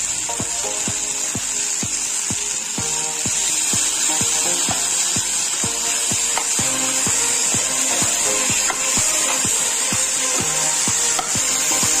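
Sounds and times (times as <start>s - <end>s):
background music with a beat: 0.0s - 12.0s
food sizzling in a pan: 0.0s - 12.0s.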